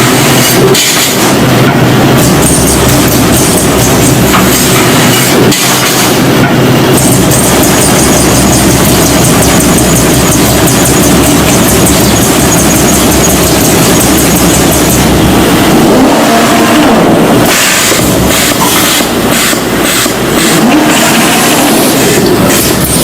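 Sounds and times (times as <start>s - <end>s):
sheet-metal machine clattering: 0.0s - 15.8s, 17.4s - 23.0s.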